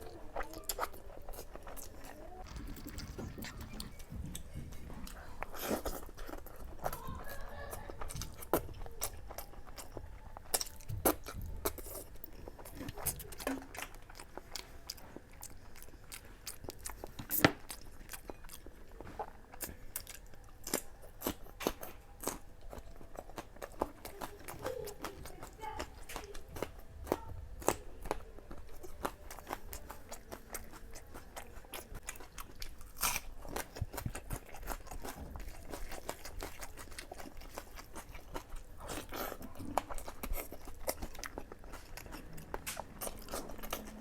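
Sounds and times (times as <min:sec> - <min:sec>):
wet chewing and mouth clicks: 0:00.0 - 0:44.0.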